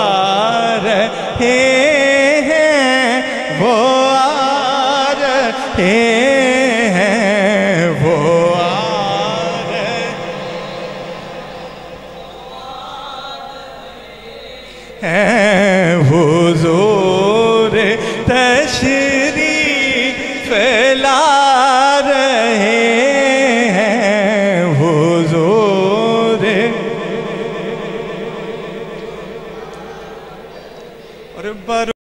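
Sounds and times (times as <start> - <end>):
man singing into a microphone: 0.0 - 32.0.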